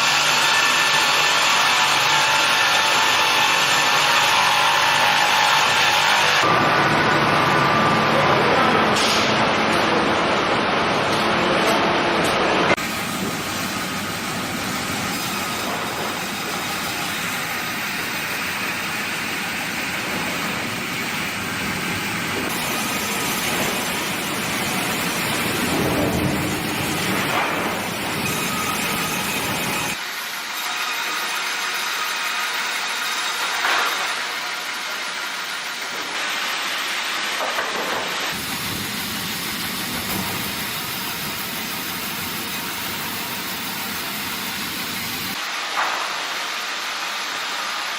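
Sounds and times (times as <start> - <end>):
sawmill machinery hissing: 0.0 - 9.4, 12.8 - 47.9.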